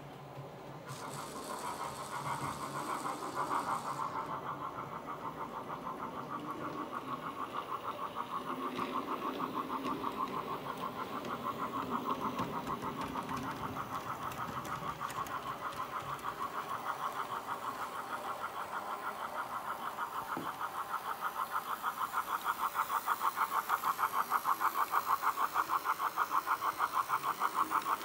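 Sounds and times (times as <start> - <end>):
model train running on track: 0.0 - 28.0.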